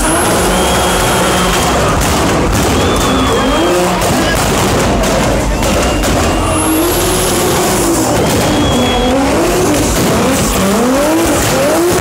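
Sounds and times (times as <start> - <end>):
car engine revving hard: 0.0 - 12.0
tyres squealing and skidding: 0.0 - 12.0.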